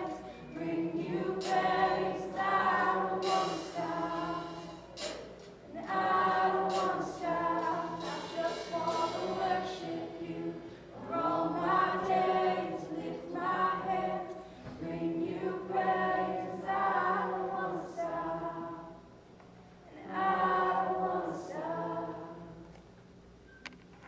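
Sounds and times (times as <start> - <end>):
group singing worship song: 0.0 - 19.1, 19.8 - 22.8.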